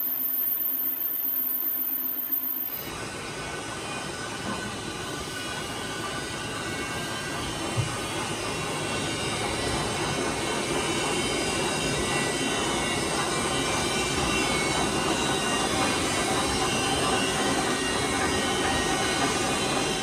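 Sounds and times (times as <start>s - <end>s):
metal lathe running: 0.0s - 20.0s.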